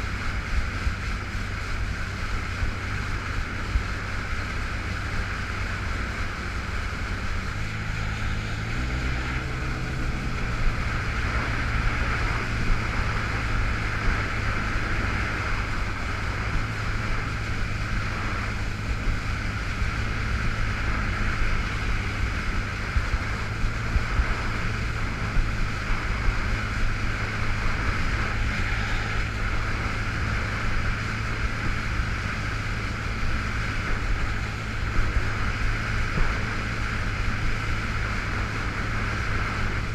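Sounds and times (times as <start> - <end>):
personal watercraft engine running: 0.0 - 39.9
water rushing: 0.0 - 39.9.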